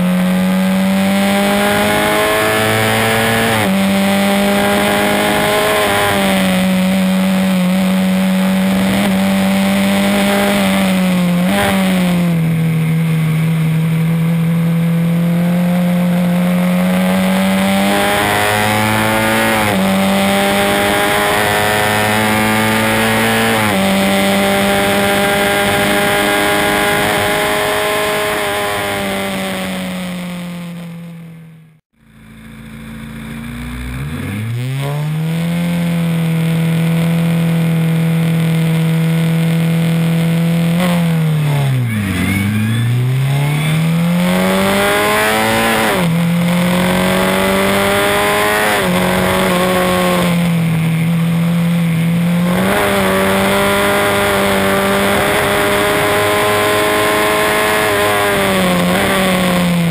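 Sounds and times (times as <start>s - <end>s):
race car engine revving: 0.0s - 31.3s, 32.3s - 59.9s.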